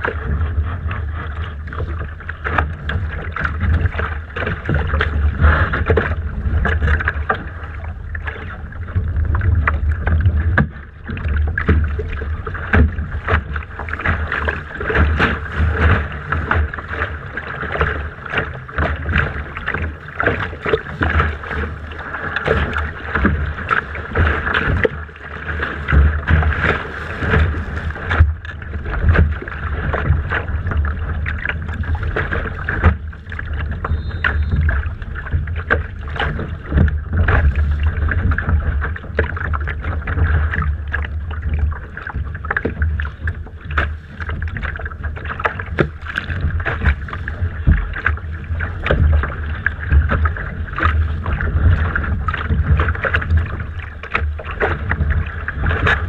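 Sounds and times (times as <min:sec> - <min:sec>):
water slapping against hull: 0:00.0 - 0:56.0
wind rumbling on microphone: 0:00.0 - 0:56.0.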